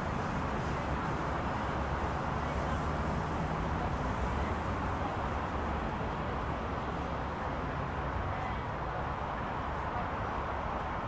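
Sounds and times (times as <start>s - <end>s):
freeway traffic rumble: 0.0s - 11.0s.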